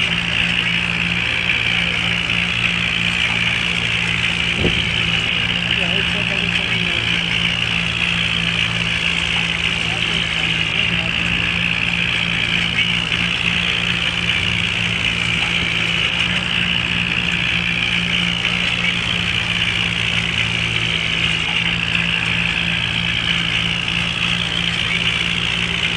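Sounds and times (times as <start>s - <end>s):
rotavator churning hiss: 0.0s - 25.9s
tractor engine hum: 0.0s - 25.9s.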